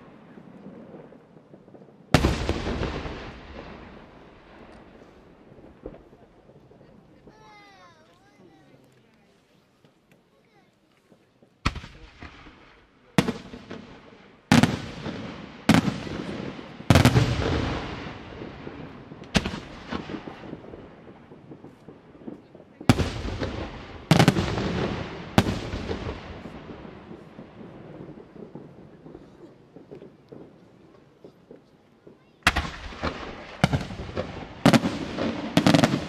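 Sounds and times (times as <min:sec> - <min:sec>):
firework shells booming: 0:00.0 - 0:07.4, 0:11.6 - 0:36.0.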